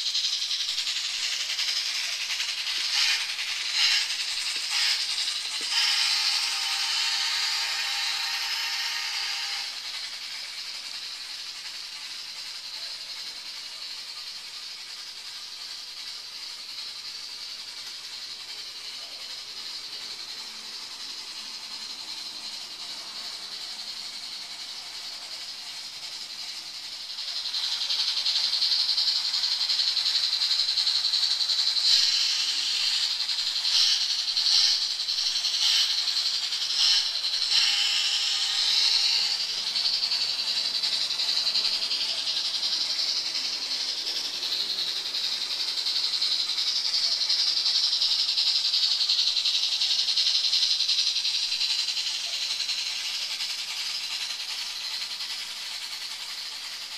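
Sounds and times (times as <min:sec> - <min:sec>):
model train motors whirring and rattling: 0:00.0 - 0:56.9.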